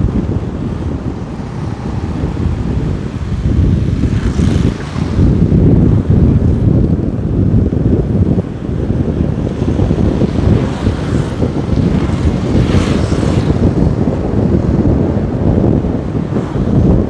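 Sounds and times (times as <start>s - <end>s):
road rumble: 0.0s - 17.0s
wind buffeting microphone: 0.0s - 17.0s.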